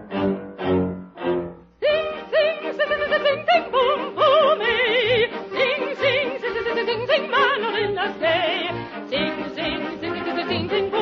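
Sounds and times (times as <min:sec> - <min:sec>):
orchestra with bouncy bass: 0:00.0 - 0:11.0
operatic soprano singing: 0:01.8 - 0:11.0.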